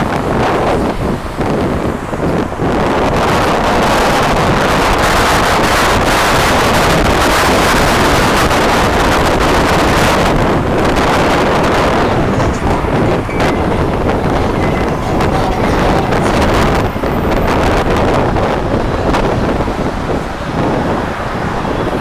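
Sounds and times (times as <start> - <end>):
wind roaring over microphone: 0.0 - 22.0.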